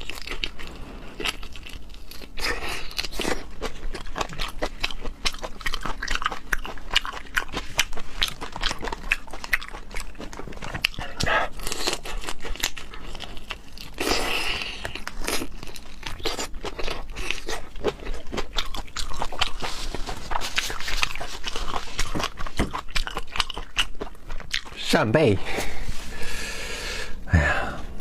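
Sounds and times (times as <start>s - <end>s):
wet chewing with crunches: 0.0s - 24.9s.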